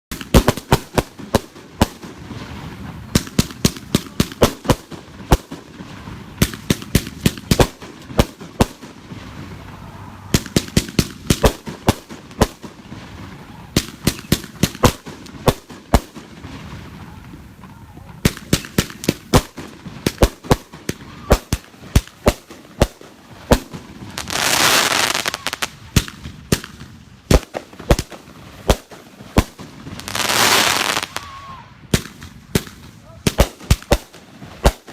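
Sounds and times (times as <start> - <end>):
firework crackle and hiss: 0.1 - 34.9
fireworks banging: 0.1 - 34.9.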